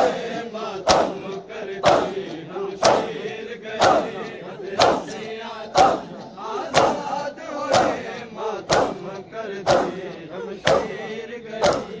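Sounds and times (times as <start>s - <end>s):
chanting voices: 0.0s - 12.0s
men beating their chests: 0.0s - 12.0s.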